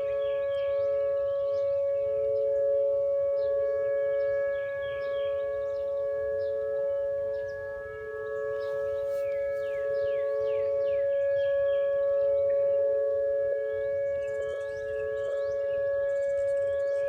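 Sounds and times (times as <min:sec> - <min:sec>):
warning siren two-pitch chord: 0:00.0 - 0:17.0.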